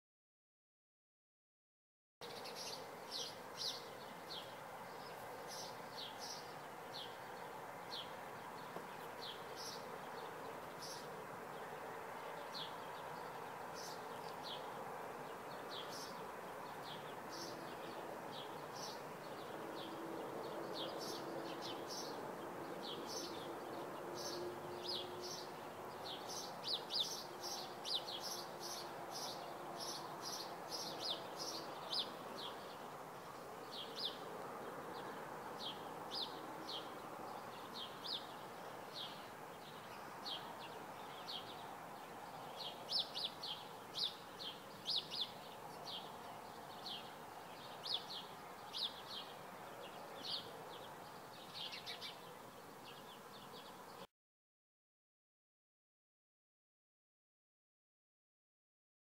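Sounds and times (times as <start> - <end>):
faint background noise: 2.2 - 54.1
songbirds chirping: 2.2 - 54.1.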